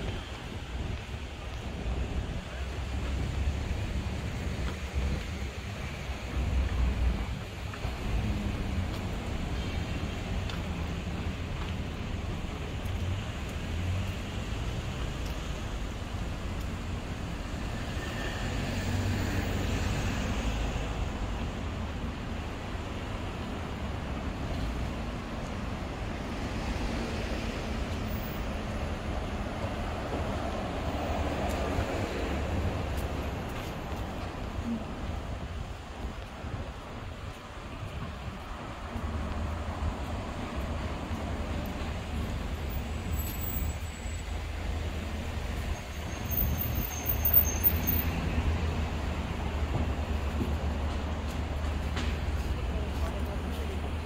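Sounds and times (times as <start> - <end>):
passing cars: 0.0 - 54.0
traffic rumble: 0.0 - 54.0.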